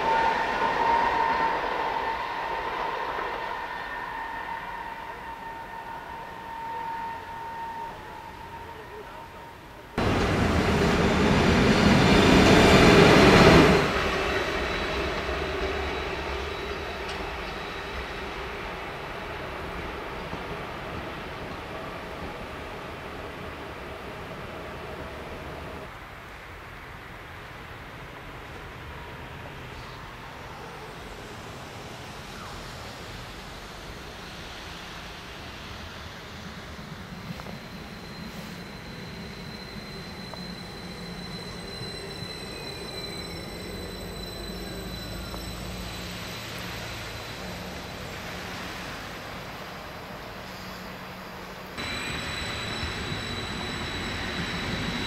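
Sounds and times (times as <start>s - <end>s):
electric locomotives passing on rails: 0.0s - 55.0s
train rolling into station: 0.0s - 55.0s.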